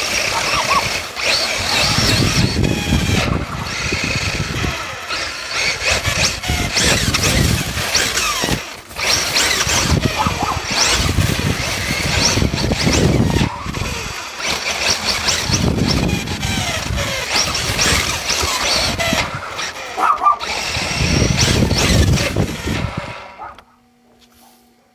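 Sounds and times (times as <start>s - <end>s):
tyres rumbling on pavement: 0.0s - 23.5s
electric motor whining: 0.0s - 24.5s.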